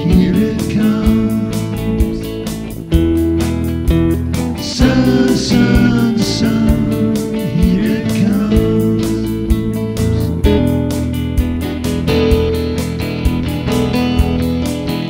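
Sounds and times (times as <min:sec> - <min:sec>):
band music with guitars: 0:00.0 - 0:15.0.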